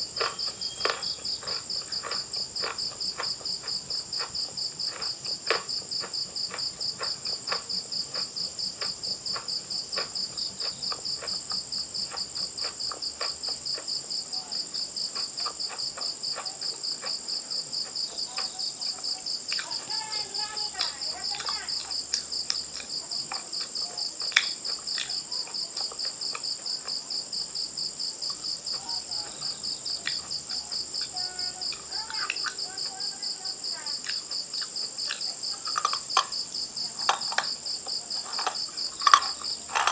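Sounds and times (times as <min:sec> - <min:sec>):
crickets chirping: 0:00.0 - 0:39.9
crunching chewing clicks: 0:00.0 - 0:39.9.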